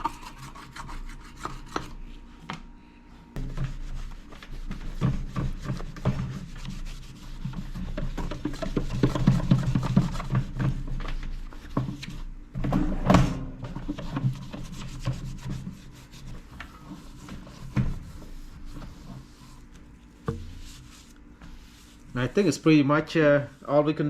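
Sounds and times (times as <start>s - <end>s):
toothbrush scrubbing: 0.0s - 2.0s, 3.5s - 11.9s, 13.8s - 22.7s.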